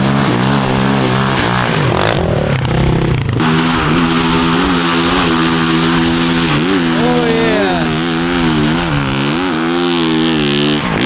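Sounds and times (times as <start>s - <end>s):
off-road engine revving: 0.0s - 11.0s.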